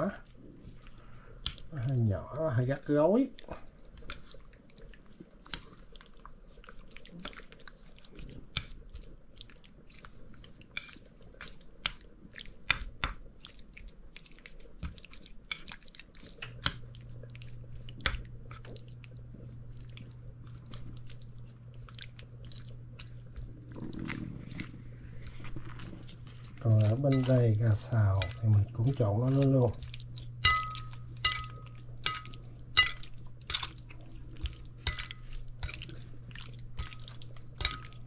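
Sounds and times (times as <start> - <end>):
low steady hum: 0.0 - 38.0
wet squishing of meat: 0.0 - 38.0.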